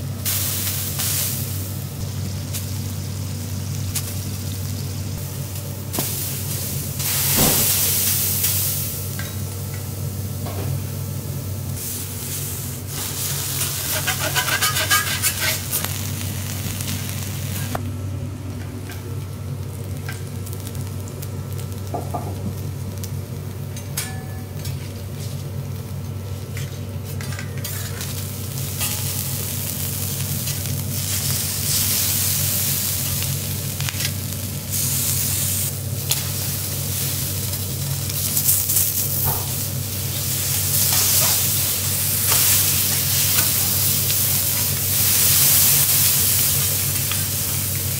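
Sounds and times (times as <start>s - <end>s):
food sizzling on griddle: 0.0s - 17.8s, 19.1s - 23.7s, 24.4s - 47.9s
steady low hum: 0.0s - 47.9s.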